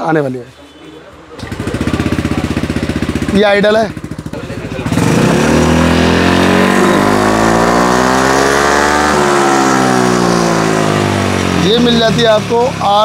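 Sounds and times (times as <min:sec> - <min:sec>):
scooter engine revving: 0:01.3 - 0:13.0.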